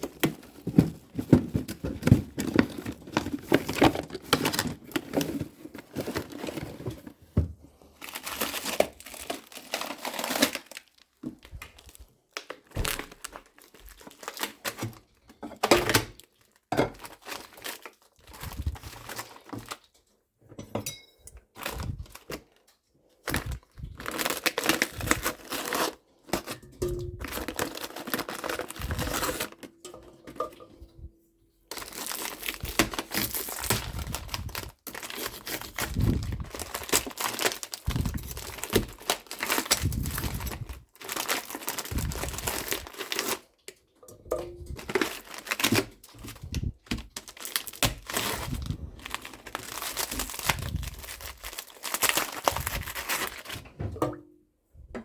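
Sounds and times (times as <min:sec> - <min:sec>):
plastic packaging crinkling and tearing: 0:00.0 - 0:20.2, 0:21.5 - 0:30.4, 0:31.7 - 0:43.8, 0:44.6 - 0:53.8.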